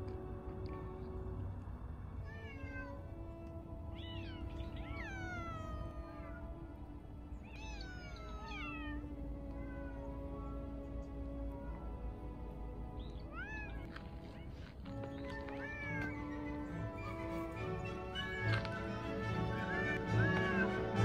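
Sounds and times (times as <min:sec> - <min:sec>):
waltz music: 0:00.0 - 0:21.0
cats meowing: 0:02.2 - 0:06.5, 0:07.4 - 0:12.3, 0:13.0 - 0:21.0.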